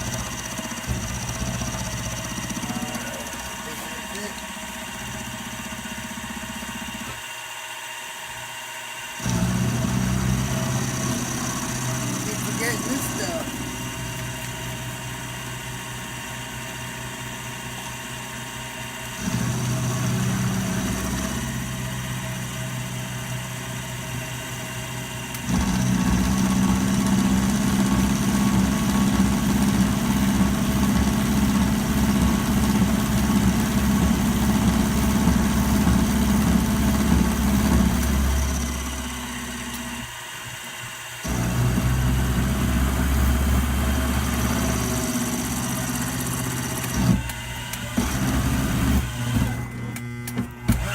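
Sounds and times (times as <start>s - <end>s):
machine tool motor humming: 0.0s - 50.9s.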